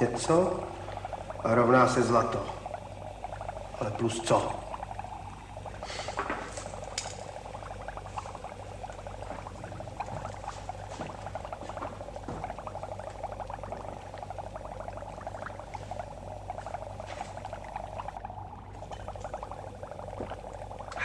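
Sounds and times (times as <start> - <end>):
liquid bubbling at a boil: 0.0 - 21.0
low steady hum: 0.0 - 21.0.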